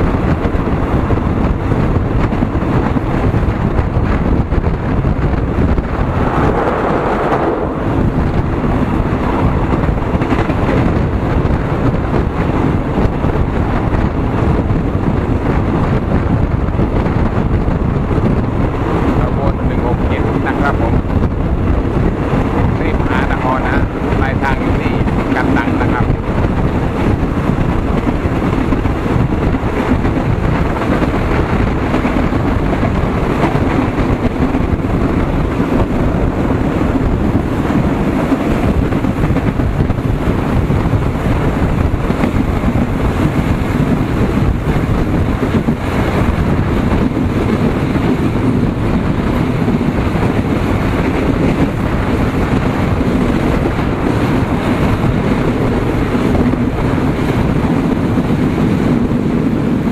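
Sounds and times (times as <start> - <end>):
passenger train rumbling: 0.0 - 59.9
wind noise on microphone: 0.0 - 59.9.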